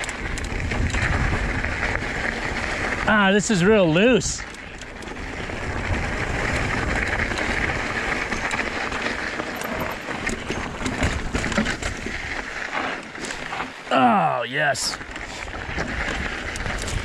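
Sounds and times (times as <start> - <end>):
bike rattling over bumps: 0.0 - 13.9, 14.9 - 17.0
tyres rushing over loose dirt: 0.0 - 17.0.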